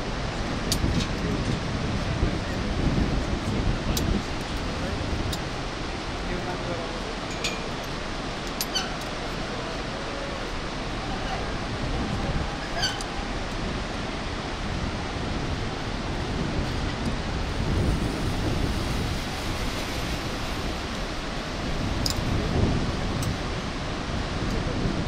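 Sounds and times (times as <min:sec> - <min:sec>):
river roaring: 0:00.0 - 0:25.0
wind buffeting microphone: 0:00.0 - 0:25.0.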